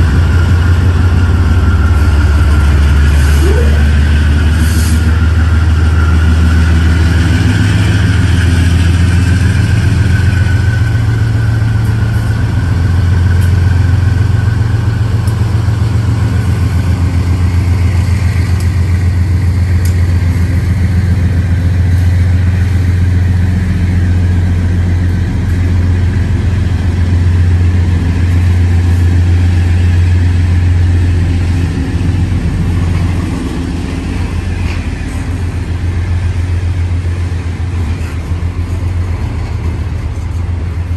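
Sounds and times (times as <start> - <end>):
heavy engine rumbling: 0.0 - 40.9.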